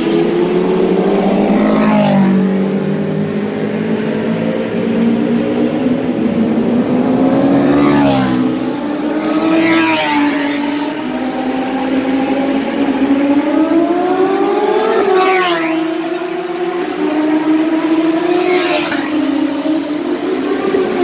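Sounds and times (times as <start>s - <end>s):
superbikes passing at speed: 0.0s - 21.0s.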